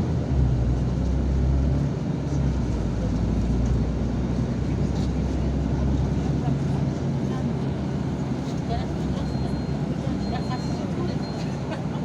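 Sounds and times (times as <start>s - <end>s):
bus engine drone: 0.0s - 12.0s
road rumble: 0.0s - 12.0s.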